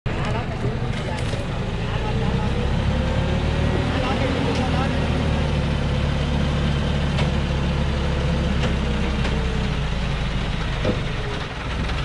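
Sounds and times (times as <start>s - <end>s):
truck diesel engine running: 0.1s - 12.0s.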